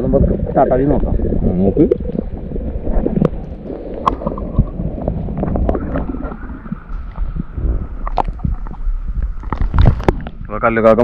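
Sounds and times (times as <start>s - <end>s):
water sloshing and lapping: 0.0s - 10.6s
wind on microphone: 0.0s - 11.0s.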